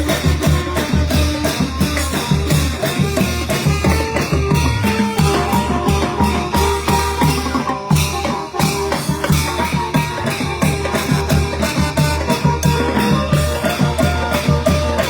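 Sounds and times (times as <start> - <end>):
driving drum and percussion beat: 0.0 - 15.0.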